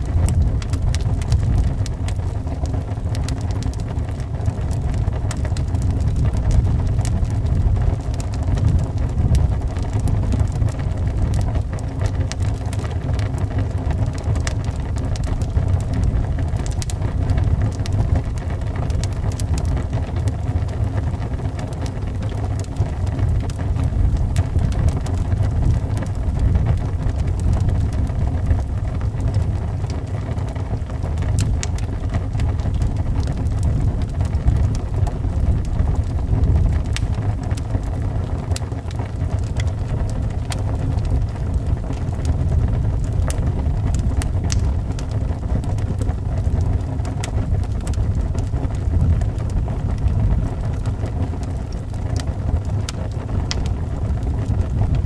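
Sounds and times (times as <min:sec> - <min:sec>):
howling wind: 0:00.0 - 0:55.0
wood fire crackling: 0:00.0 - 0:55.0.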